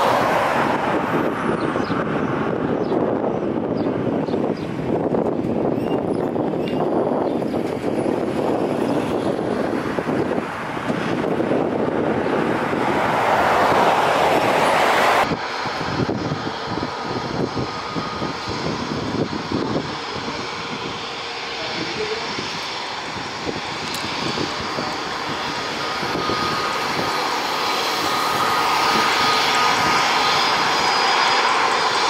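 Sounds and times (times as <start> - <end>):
jet airliner engines at takeoff: 0.0 - 32.0
jet engines taxiing hum: 0.0 - 32.0.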